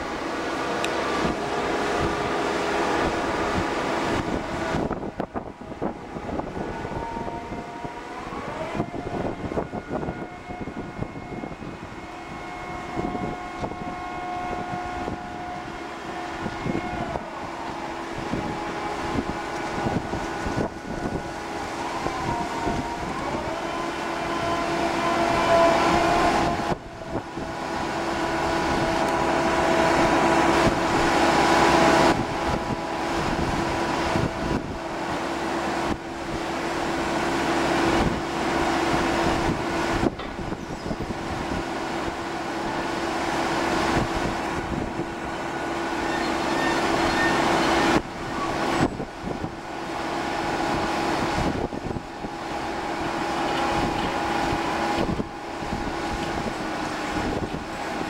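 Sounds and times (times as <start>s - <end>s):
crane machinery humming: 0.0s - 58.0s.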